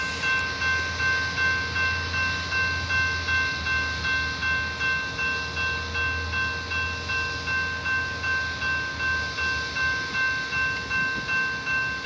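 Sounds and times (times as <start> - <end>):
crossing warning bell ringing: 0.0 - 12.0.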